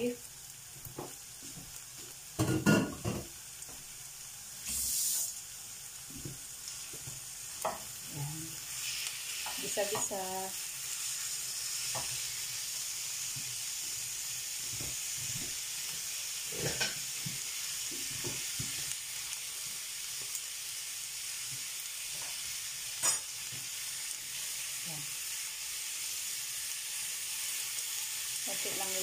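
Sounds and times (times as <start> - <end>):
meat and onions sizzling in pan: 0.0 - 29.0.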